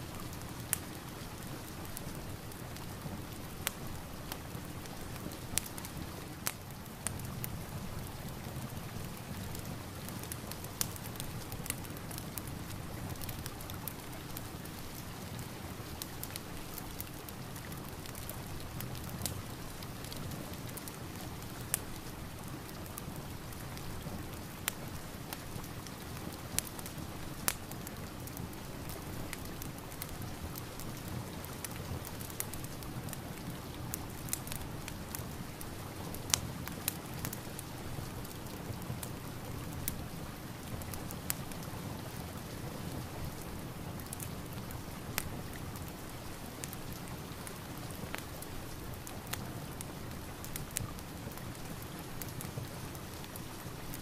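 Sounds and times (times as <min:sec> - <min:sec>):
fireplace crackling and popping: 0:00.0 - 0:54.0
steady rain hiss: 0:00.0 - 0:54.0.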